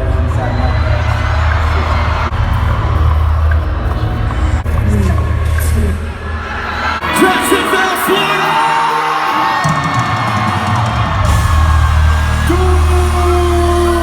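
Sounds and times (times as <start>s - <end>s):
loud music over sound system: 0.0s - 14.0s.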